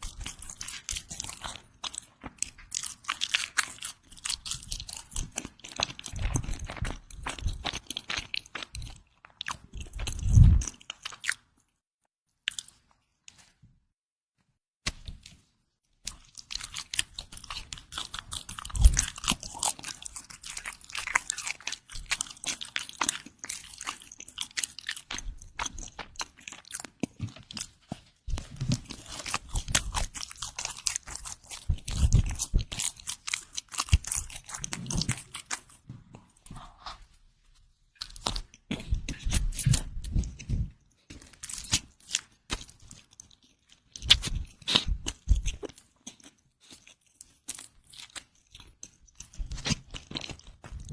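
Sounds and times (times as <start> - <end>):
chewing crunchy bread: 0.0 - 13.8, 14.9 - 50.9.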